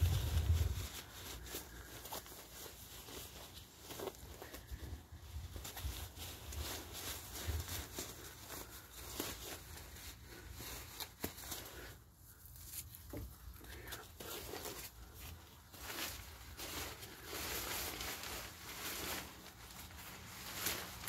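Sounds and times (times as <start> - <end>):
tent fabric rustling: 0.0 - 21.0.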